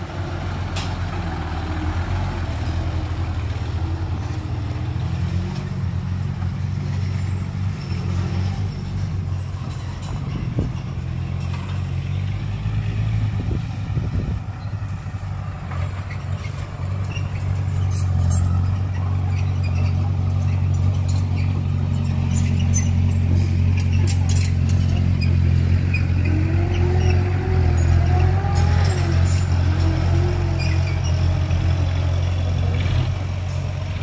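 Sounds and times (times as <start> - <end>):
heavy diesel truck engine: 0.0 - 34.0.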